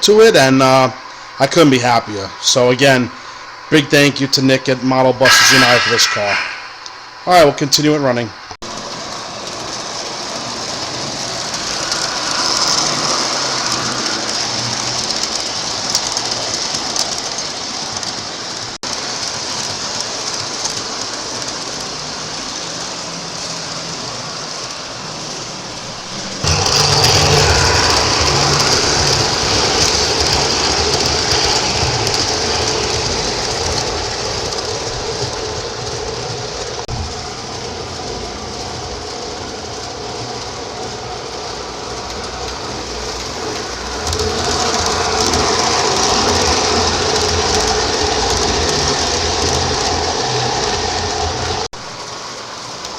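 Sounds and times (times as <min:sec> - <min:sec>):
model train rolling on track: 0:00.0 - 0:05.6, 0:08.6 - 0:52.9.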